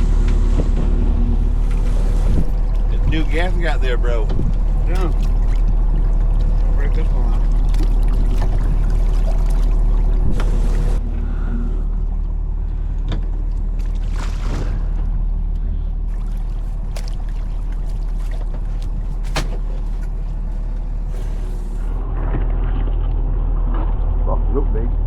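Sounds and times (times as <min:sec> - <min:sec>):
boat engine humming: 0:00.0 - 0:25.0.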